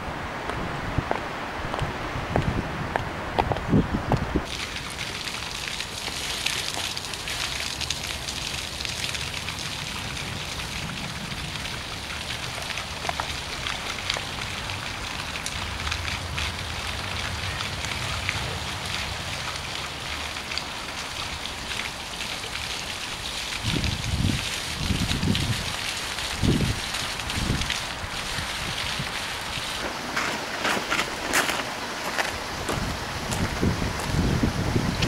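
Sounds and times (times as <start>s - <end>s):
fountain water splashing: 4.4s - 35.0s.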